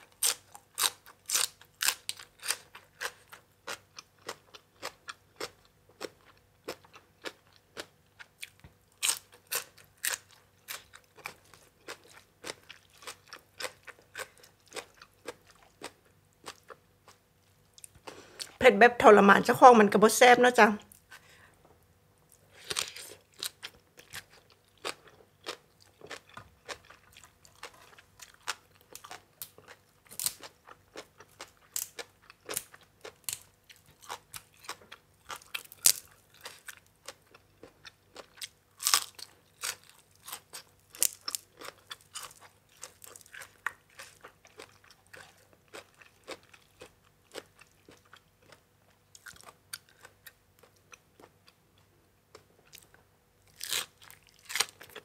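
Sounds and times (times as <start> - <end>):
person chewing crunchy salad: 0.0 - 18.6, 22.3 - 55.0.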